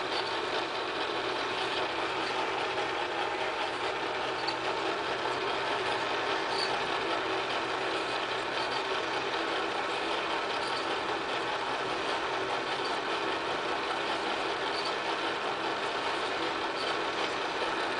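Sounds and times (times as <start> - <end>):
film projector running: 0.0 - 17.9.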